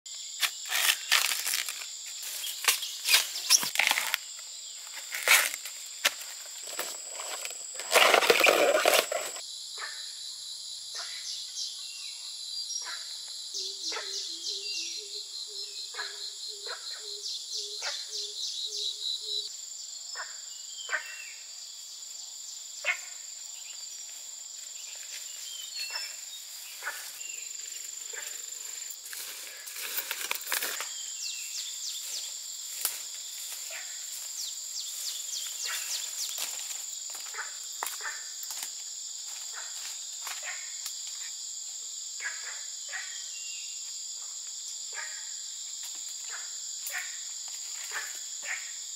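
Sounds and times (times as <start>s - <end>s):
insects droning: 0.1s - 48.9s.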